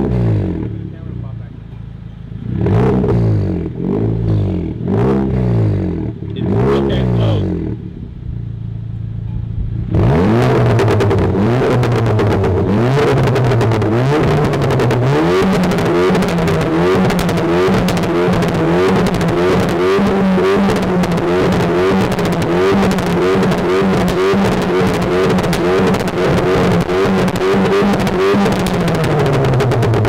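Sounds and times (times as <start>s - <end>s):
car engine revving: 0.0s - 30.0s
exhaust crackle: 0.0s - 30.0s.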